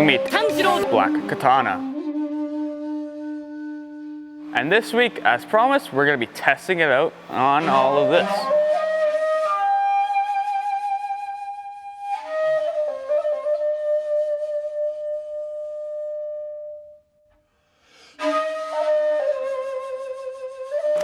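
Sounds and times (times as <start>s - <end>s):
flute music with long notes: 0.0s - 5.2s, 7.3s - 17.3s, 18.1s - 21.0s.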